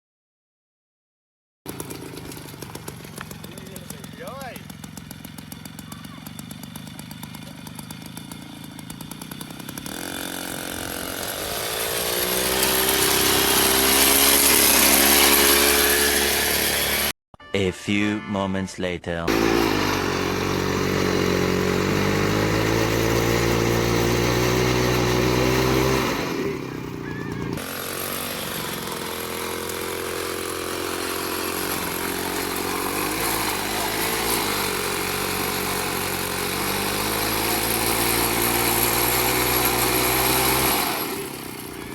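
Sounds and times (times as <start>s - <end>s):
small tractor engine running: 1.7s - 17.1s, 19.3s - 41.9s.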